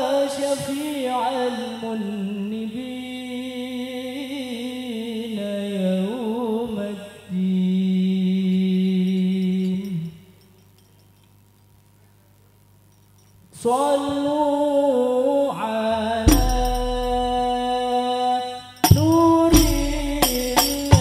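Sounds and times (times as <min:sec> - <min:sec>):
man chanting unaccompanied: 0:00.0 - 0:10.4, 0:13.5 - 0:21.0.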